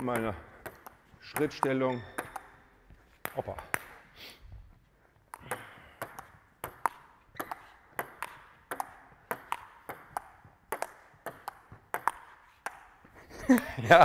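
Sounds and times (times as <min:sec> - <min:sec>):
table tennis ball clicking: 0:00.0 - 0:04.0, 0:05.3 - 0:13.0.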